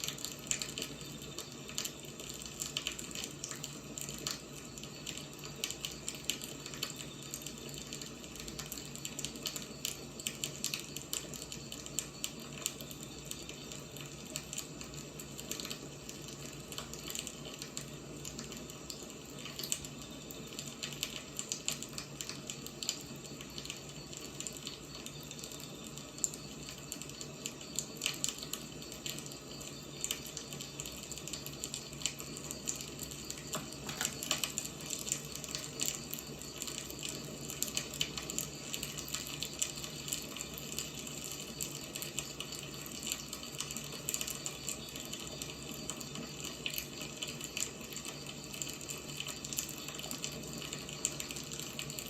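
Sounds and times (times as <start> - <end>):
firewood burning with crackles: 0.0 - 52.0.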